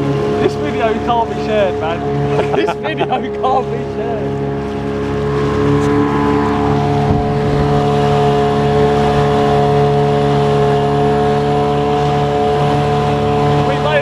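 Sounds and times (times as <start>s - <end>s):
small outboard motor running: 0.0s - 14.0s.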